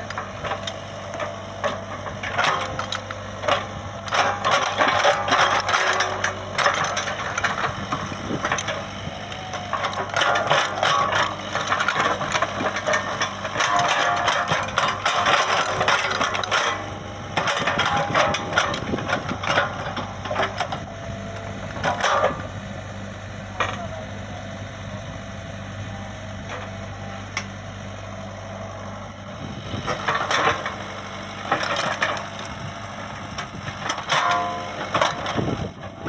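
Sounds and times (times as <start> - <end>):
clattering and scraping machinery: 0.0 - 36.0
excavator diesel engine running: 0.0 - 36.0.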